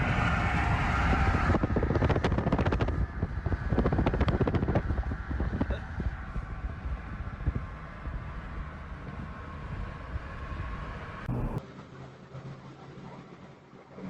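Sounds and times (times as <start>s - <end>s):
vehicle road noise rumble: 0.0s - 14.0s.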